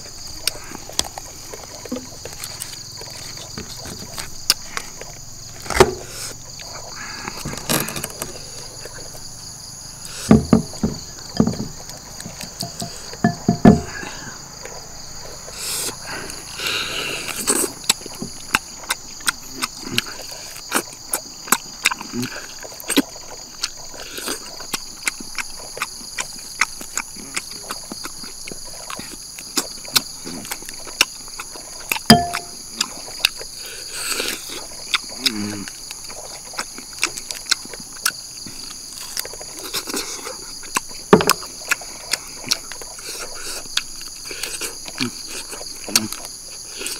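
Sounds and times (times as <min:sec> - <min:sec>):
mouth chewing with wet smacks: 0:00.0 - 0:07.6, 0:08.2 - 0:14.0, 0:14.6 - 0:46.9
tearing and eating food: 0:00.0 - 0:13.3, 0:13.9 - 0:46.9
insects chirping: 0:00.0 - 0:46.9.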